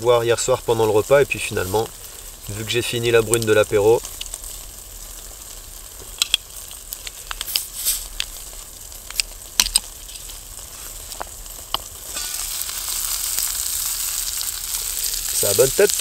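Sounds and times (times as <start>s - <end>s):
flatbread sizzling in oil: 0.0s - 16.0s.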